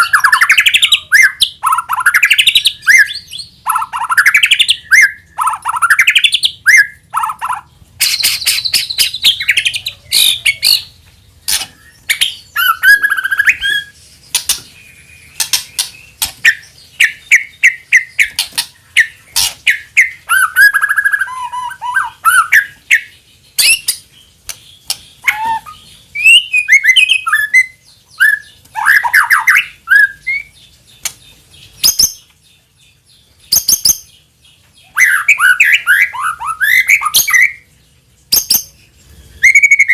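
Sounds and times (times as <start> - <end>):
songbird singing with clicks: 0.0 - 39.9.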